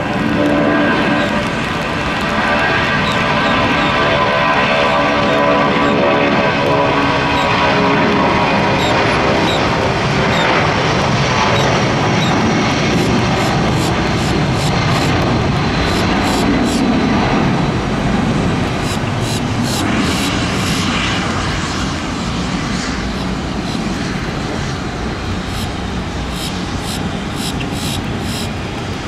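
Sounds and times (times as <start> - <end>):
jet engines at takeoff: 0.0 - 29.0.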